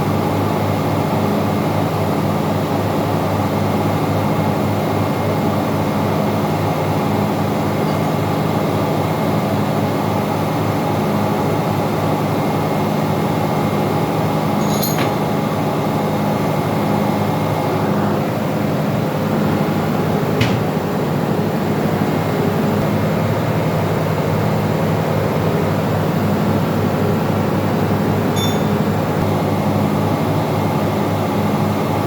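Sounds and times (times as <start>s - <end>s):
engine room machinery drone: 0.0s - 32.0s.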